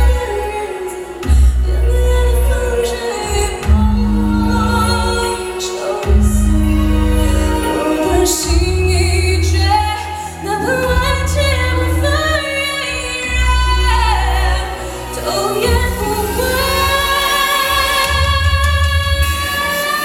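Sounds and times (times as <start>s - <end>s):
band playing: 0.0s - 20.0s
woman singing pop ballad: 0.0s - 20.0s.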